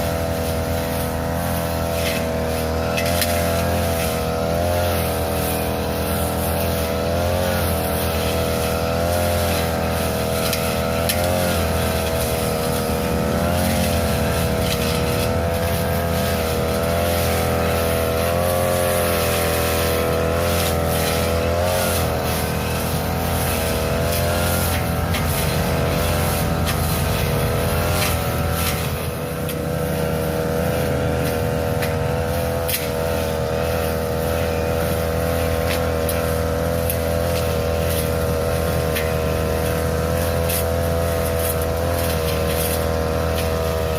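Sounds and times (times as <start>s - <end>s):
grass cutter engine running: 0.0s - 43.9s.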